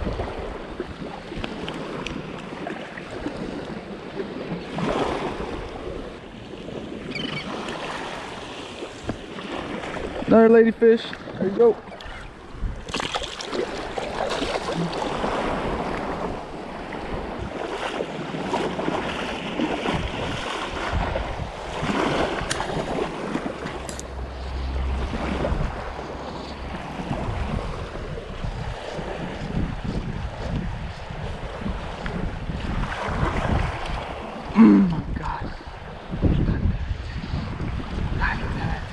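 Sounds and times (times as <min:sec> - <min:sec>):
small waves washing in surf: 0:00.0 - 0:38.9
wind buffeting microphone: 0:00.0 - 0:38.9.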